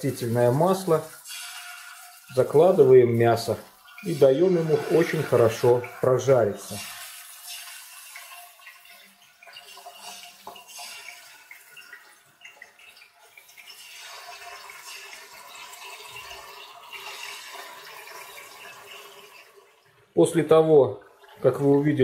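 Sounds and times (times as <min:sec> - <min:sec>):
pork sizzling in oil: 0:00.0 - 0:19.8.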